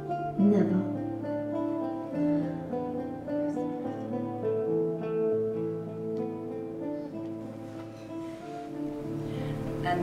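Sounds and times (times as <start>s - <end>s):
slow plucked guitar notes: 0.0s - 10.0s.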